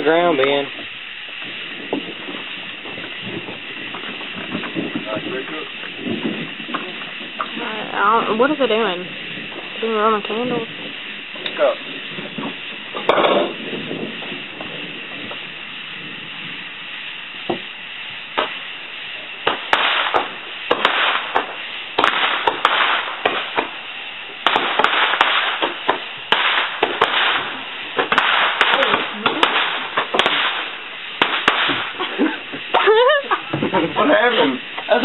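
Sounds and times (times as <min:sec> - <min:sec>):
fireworks popping: 0:00.0 - 0:35.0
roman candles firing: 0:00.0 - 0:35.0.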